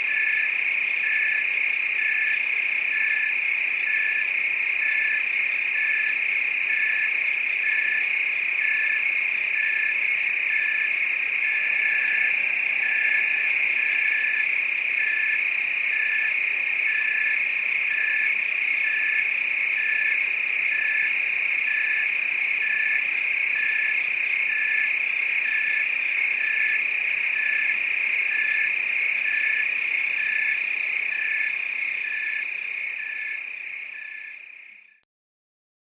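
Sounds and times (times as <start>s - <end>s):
frogs calling: 0.0s - 34.5s
crickets trilling: 0.0s - 34.6s.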